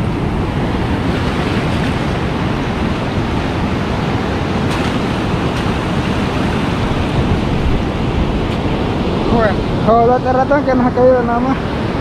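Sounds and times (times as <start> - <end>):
surf washing over shallows: 0.0 - 12.0
wind buffeting microphone: 0.0 - 12.0.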